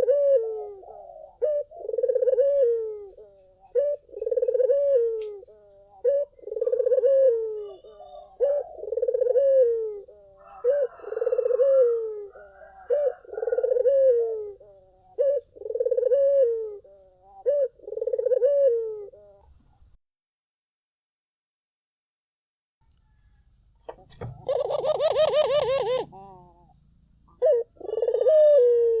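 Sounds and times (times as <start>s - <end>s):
dove cooing: 0.0s - 19.8s, 23.9s - 29.0s.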